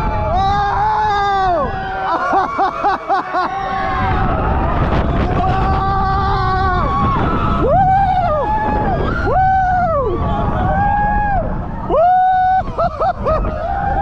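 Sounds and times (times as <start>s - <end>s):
riders screaming: 0.0s - 14.0s
roller coaster train rumble: 0.0s - 14.0s.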